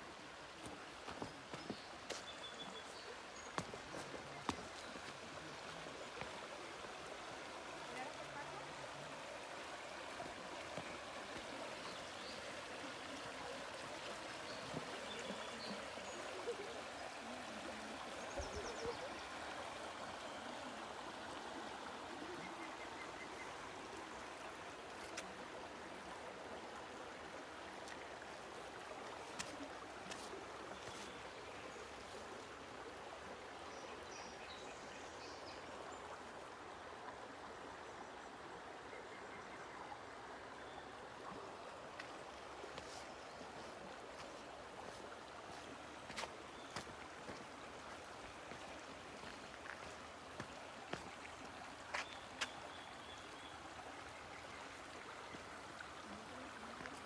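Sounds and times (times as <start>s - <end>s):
stream of water running: 0.0s - 57.0s.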